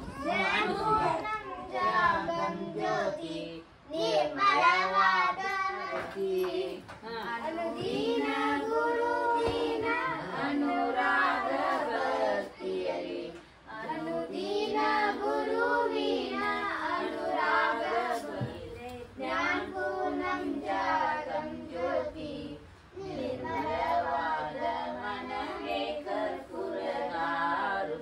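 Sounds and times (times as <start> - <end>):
children singing: 0.0 - 28.0.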